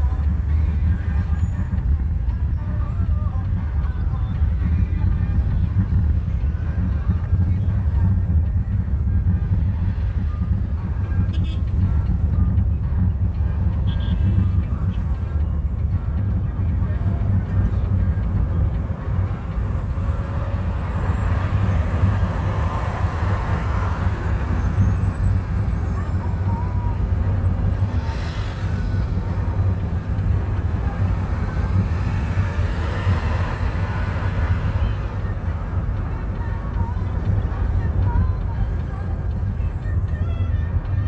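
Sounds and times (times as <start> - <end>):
car cabin engine and road rumble: 0.0 - 41.0.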